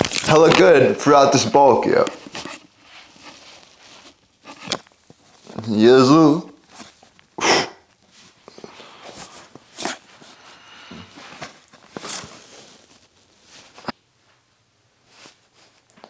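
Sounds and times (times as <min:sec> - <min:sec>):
clothing rustling on microphone: 0:00.0 - 0:07.3, 0:08.0 - 0:16.0.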